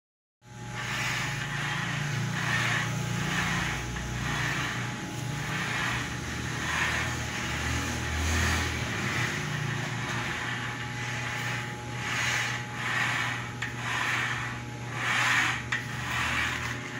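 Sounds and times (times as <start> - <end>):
stepper motors humming: 0.5 - 16.9.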